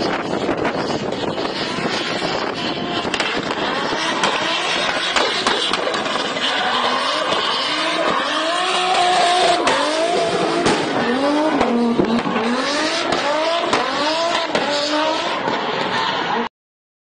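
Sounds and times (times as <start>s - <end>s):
tyre squeal: 0.0s - 13.6s
car engine revving: 0.0s - 16.5s.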